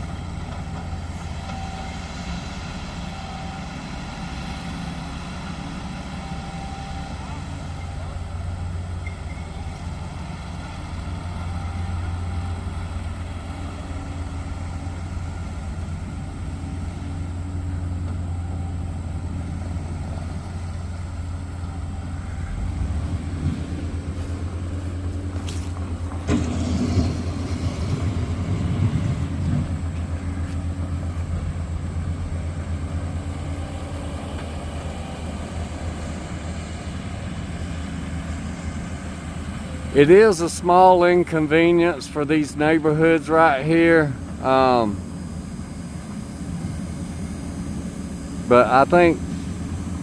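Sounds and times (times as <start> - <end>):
construction machinery engine drone: 0.0 - 50.0.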